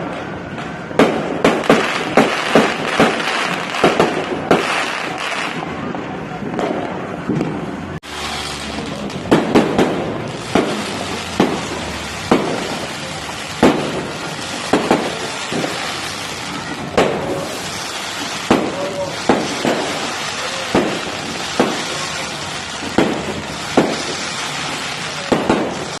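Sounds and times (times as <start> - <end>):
fireworks banging: 0.0 - 26.0.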